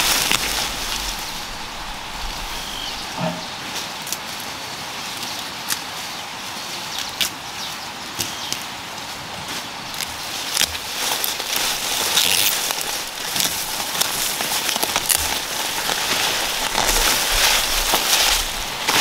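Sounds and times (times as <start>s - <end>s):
rustle of leaves and stems: 0.0s - 19.0s.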